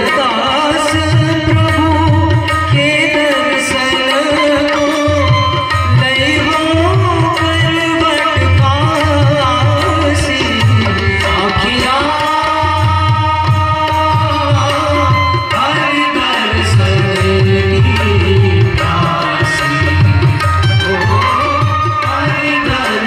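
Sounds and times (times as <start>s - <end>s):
hand drums: 0.0s - 23.0s
harmonium: 0.0s - 23.0s
person singing devotional melody: 0.0s - 23.0s.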